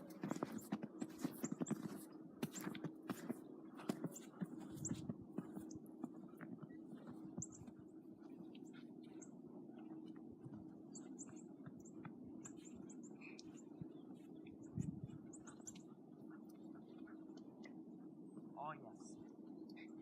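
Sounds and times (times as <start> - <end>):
low hum: 0.0 - 20.0
small birds chirping: 0.0 - 20.0.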